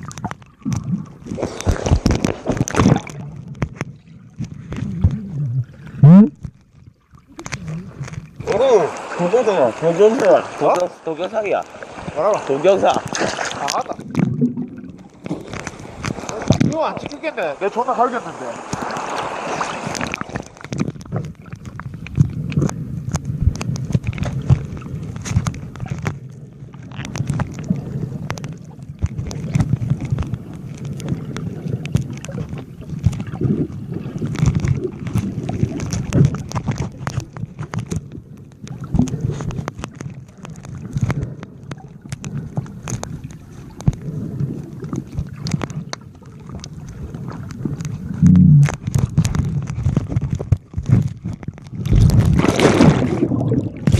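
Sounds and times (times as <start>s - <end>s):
muffled underwater sloshing: 0.0s - 53.9s.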